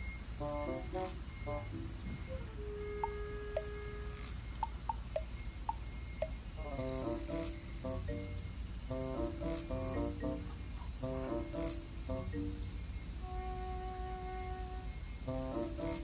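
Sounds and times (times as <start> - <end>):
high-pitched insect drone: 0.0 - 16.0
light background music: 0.4 - 5.1, 6.6 - 16.0.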